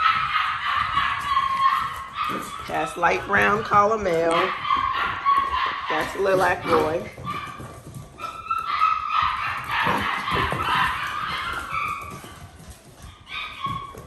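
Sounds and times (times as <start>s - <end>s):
puppies whining and yipping: 0.0s - 14.0s.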